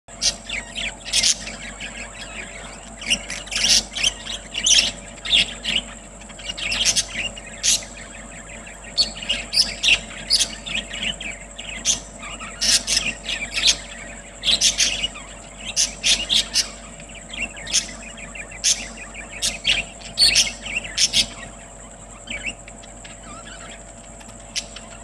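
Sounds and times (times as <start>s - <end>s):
budgerigars chirping and chattering: 0.1s - 25.0s.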